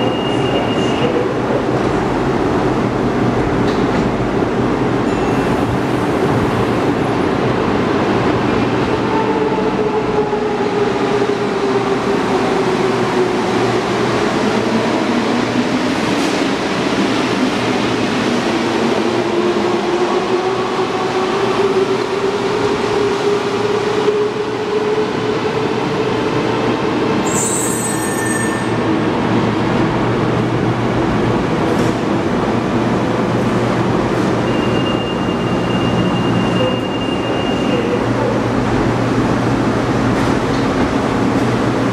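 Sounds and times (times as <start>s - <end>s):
metro train rumble and whine: 0.0s - 41.9s.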